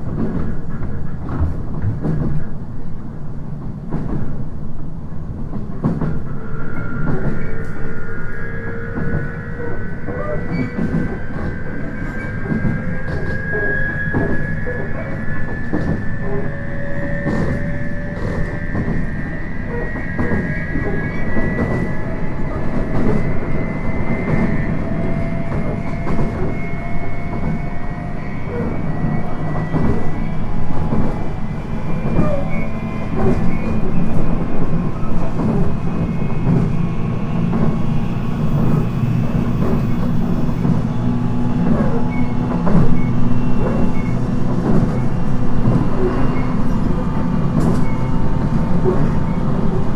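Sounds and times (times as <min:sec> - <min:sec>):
electric train whine: 0:00.0 - 0:49.9
low train hum: 0:00.0 - 0:49.9.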